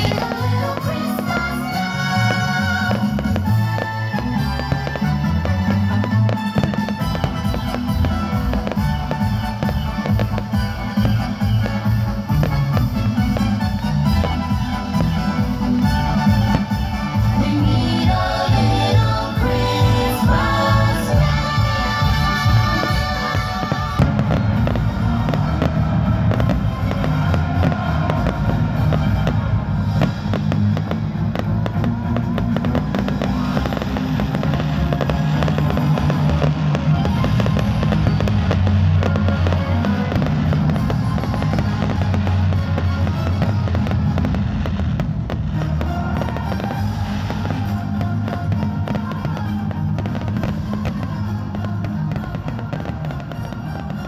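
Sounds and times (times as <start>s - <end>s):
fireworks crackling and popping: 0.0s - 54.0s
music with low bass: 0.0s - 54.0s.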